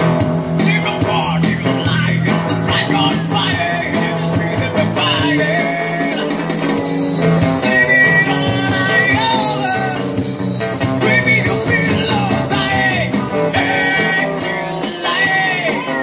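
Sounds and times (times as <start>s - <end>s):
song with guitar accompaniment: 0.0s - 16.0s.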